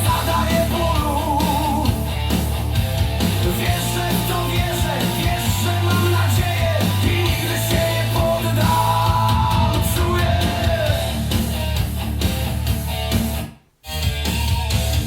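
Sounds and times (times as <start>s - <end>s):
rock music through a speaker: 0.0s - 15.0s.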